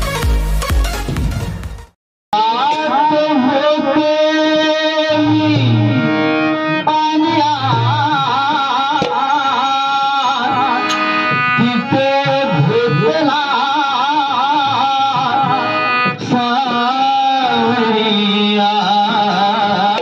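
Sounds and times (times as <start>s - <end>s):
harmonium chords: 0.0s - 20.0s
man singing devotional song: 2.3s - 20.0s.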